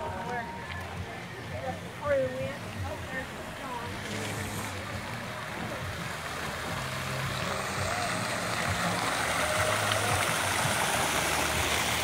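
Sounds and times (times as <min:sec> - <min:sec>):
fountain jets splashing into basin: 0:00.0 - 0:12.0.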